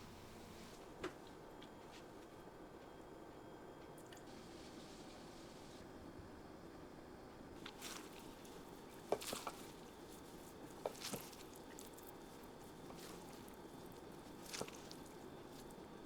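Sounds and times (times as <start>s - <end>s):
faint steady hiss: 0.0s - 3.2s, 3.9s - 16.0s.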